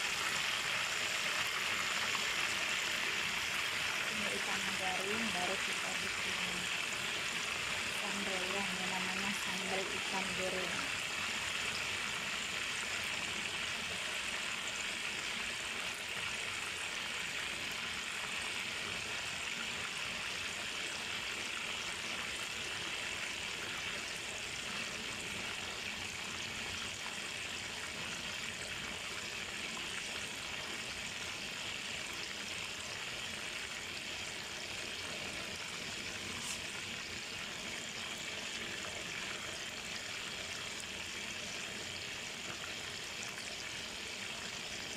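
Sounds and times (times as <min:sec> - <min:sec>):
fish deep-frying in oil: 0:00.0 - 0:44.9.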